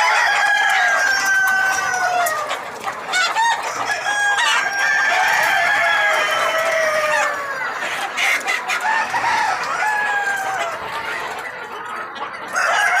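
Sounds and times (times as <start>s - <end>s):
roosters crowing: 0.0s - 11.2s, 12.5s - 13.0s
chickens clucking: 0.0s - 13.0s.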